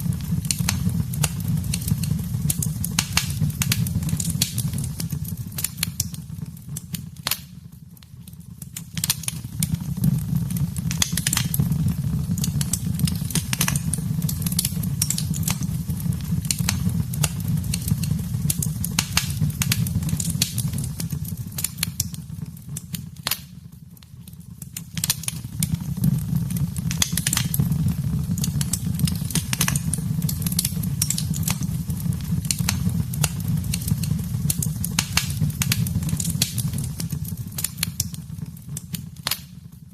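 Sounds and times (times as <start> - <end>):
fire crackling and popping: 0.0 - 39.9
low fire rumble: 0.0 - 39.9.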